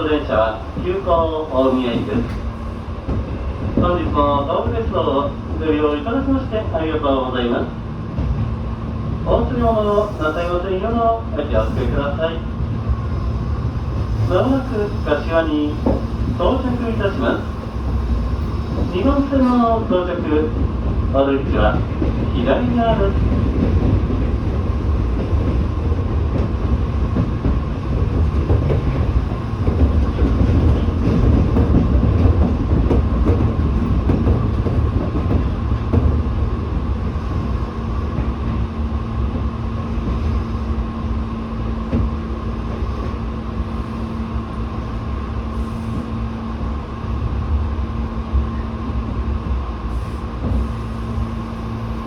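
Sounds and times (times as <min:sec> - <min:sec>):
electric train rumbling over rails: 0:00.0 - 0:52.0
low hum of train equipment: 0:00.0 - 0:52.0.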